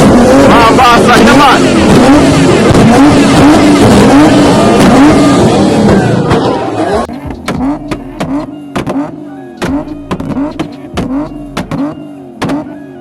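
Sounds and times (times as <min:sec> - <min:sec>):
car engine revving on limiter: 0:00.0 - 0:13.0
exhaust pops: 0:01.2 - 0:12.7.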